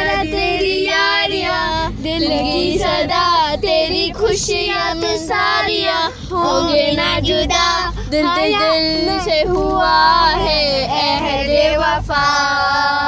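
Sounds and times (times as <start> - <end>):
boy singing: 0.0 - 13.0
car rumble: 0.0 - 13.0.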